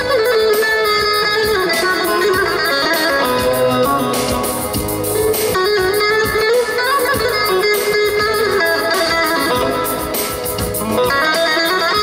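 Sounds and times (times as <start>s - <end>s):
amplified saz picking a melody: 0.0s - 12.0s
electronic keyboard accompaniment: 0.0s - 12.0s.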